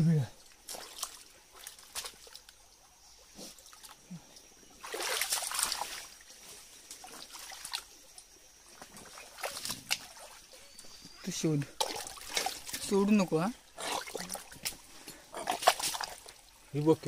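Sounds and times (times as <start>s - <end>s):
muddy water sloshing: 0.0s - 17.0s
water splashing: 0.3s - 2.7s, 4.7s - 10.7s, 11.3s - 17.0s.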